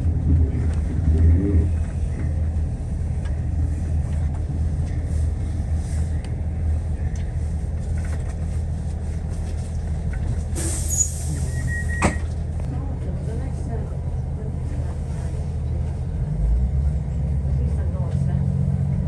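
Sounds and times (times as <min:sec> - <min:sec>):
railcar engine rumble: 0:00.0 - 0:19.0.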